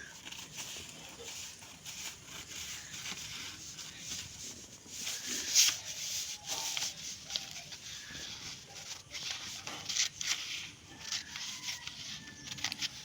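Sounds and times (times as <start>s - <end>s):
paper crackle: 0.0s - 13.0s
paper rustling: 0.0s - 13.0s.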